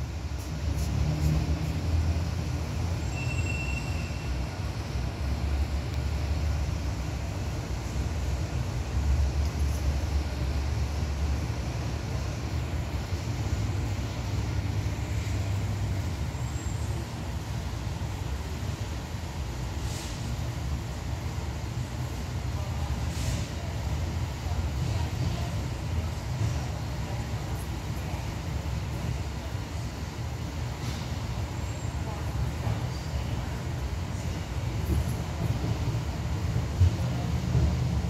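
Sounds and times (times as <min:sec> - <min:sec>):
fire engine rumble: 0:00.0 - 0:38.0.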